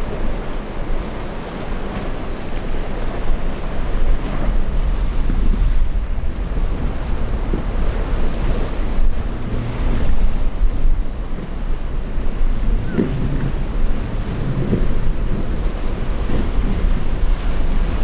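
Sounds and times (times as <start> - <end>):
breaking surf: 0.0 - 18.0
wind buffeting microphone: 0.0 - 18.0.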